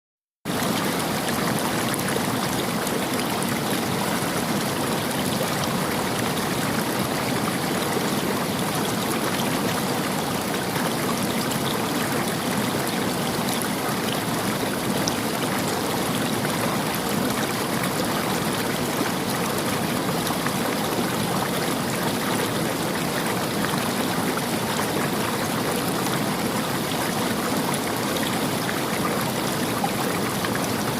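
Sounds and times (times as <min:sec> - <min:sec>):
river water running over stones: 0:00.5 - 0:30.9.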